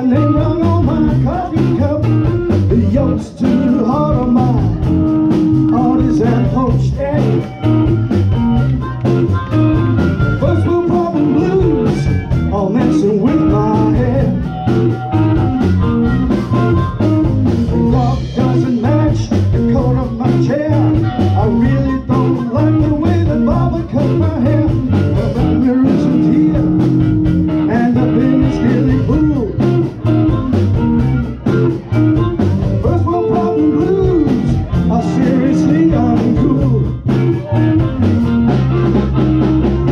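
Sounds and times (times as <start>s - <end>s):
person singing: 0.0s - 17.1s, 17.7s - 30.4s, 31.2s - 39.0s
blues rock band playing: 0.0s - 39.9s.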